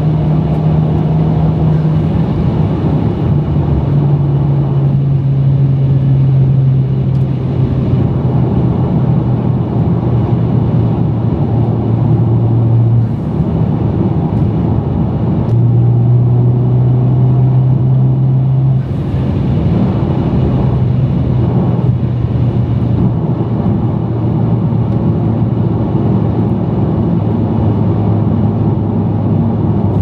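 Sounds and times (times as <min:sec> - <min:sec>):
low exhaust drone: 0:00.0 - 0:30.0
tyre and road noise: 0:00.0 - 0:30.0.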